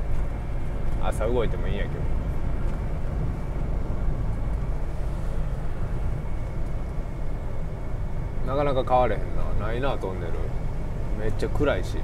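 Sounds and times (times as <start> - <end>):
car interior road and engine noise: 0.0 - 12.0.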